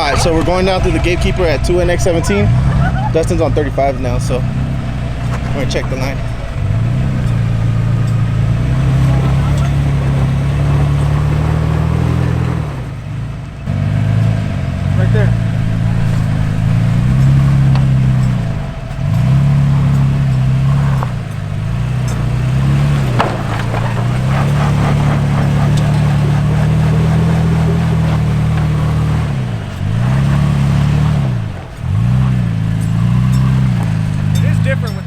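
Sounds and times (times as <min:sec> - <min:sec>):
tires crunching on rock: 0:00.0 - 0:35.0
truck engine at low revs: 0:00.0 - 0:35.0.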